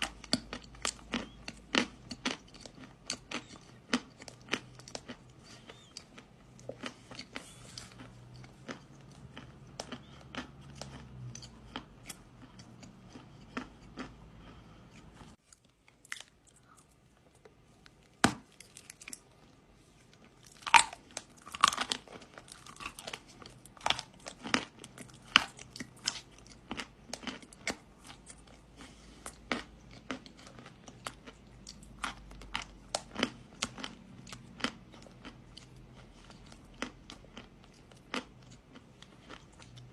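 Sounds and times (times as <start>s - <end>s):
biting and chewing dry clay: 0.0s - 39.9s.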